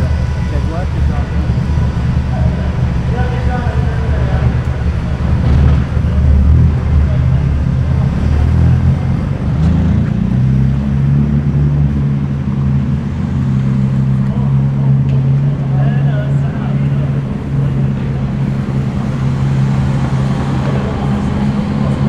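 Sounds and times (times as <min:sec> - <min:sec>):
car engine running: 0:00.0 - 0:22.0
street traffic noise: 0:00.0 - 0:22.0.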